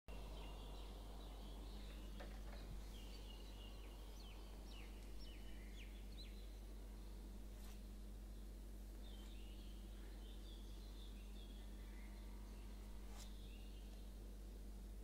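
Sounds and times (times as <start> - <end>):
background hiss: 0.1 - 15.0
faint birds chirping: 0.1 - 15.0
steady low hum: 0.1 - 15.0.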